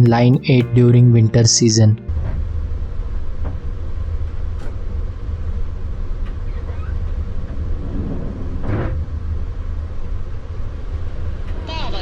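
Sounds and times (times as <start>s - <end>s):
tram rumbling on rails: 2.1s - 12.0s.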